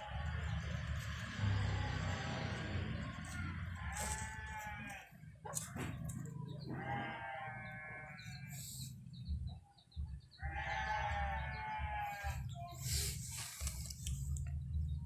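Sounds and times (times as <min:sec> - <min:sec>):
farm animal calling: 0:00.0 - 0:14.9.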